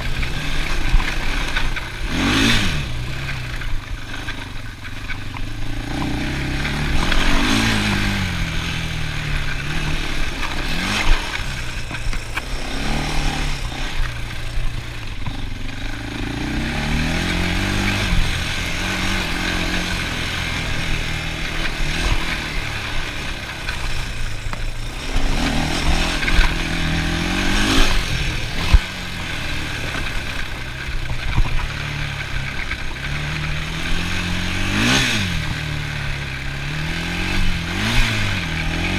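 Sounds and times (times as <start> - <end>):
atv engine running under load: 0.0 - 38.9.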